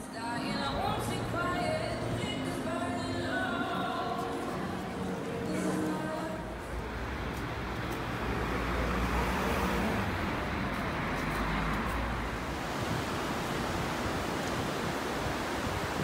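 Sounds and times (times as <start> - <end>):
road traffic rushing: 0.6 - 16.0.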